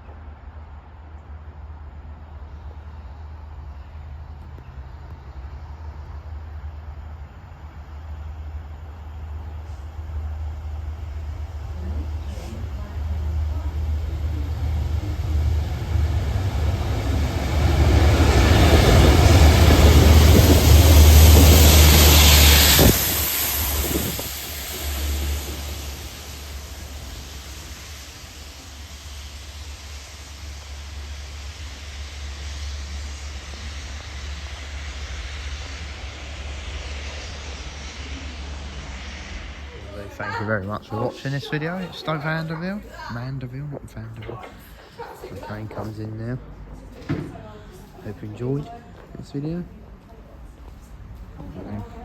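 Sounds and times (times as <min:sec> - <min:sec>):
diesel locomotive engine drone: 0:00.0 - 0:52.0
rushing rail noise: 0:00.0 - 0:52.0
train rumbling: 0:00.0 - 0:52.0.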